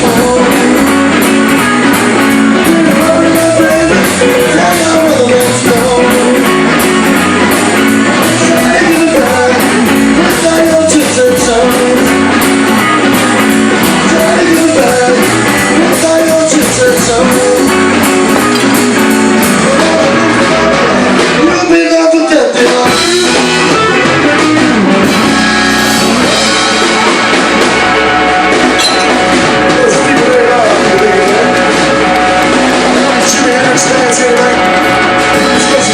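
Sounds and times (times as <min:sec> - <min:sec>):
person singing: 0:00.0 - 0:25.2, 0:28.0 - 0:35.9
blues-rock band playing: 0:00.0 - 0:35.9
electric guitar: 0:00.0 - 0:35.9.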